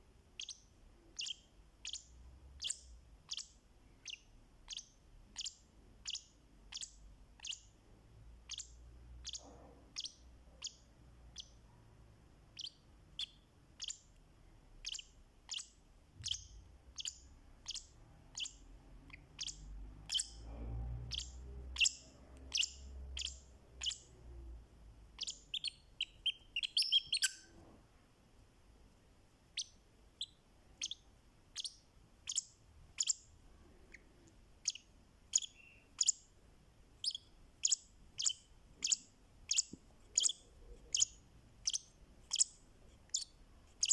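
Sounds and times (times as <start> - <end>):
lovebird chirping: 0.3 - 27.8, 29.5 - 43.9.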